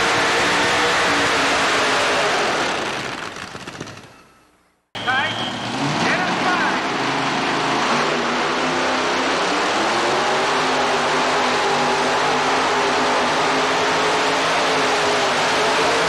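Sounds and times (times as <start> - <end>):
truck engine at high revs: 0.0 - 4.1, 5.0 - 16.0.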